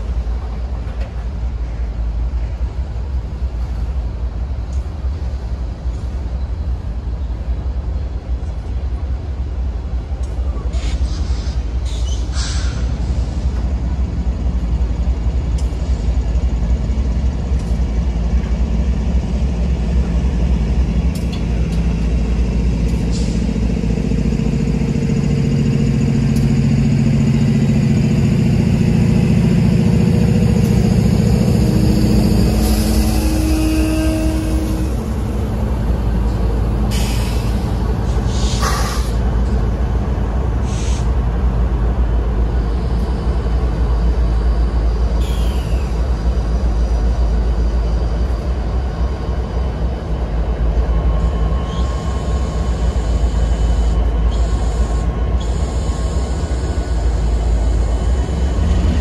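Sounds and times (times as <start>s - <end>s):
diesel locomotive engine drone: 0.0s - 59.0s
low train rumble: 0.0s - 59.0s.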